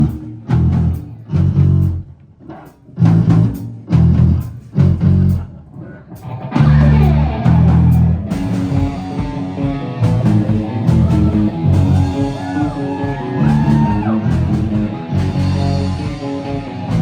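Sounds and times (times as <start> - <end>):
rock band playing: 0.0 - 5.5, 6.1 - 17.0.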